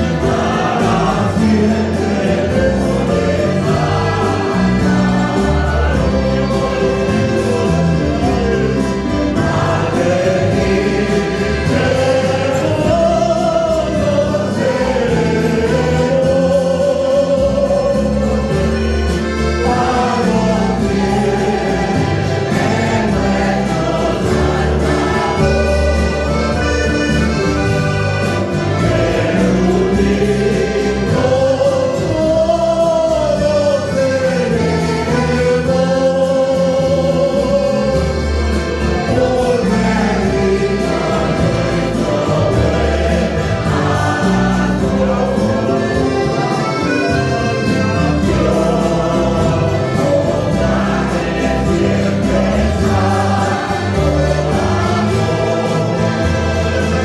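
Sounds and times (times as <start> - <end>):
acoustic guitar: 0.0 - 57.0
church choir singing a hymn: 0.0 - 57.0.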